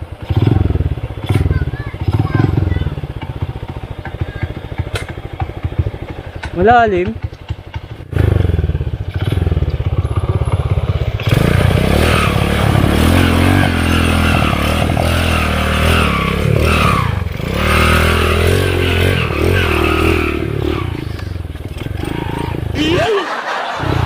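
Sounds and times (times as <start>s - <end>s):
motorcycle engine revving: 0.0s - 24.0s
clatter: 0.2s - 22.8s.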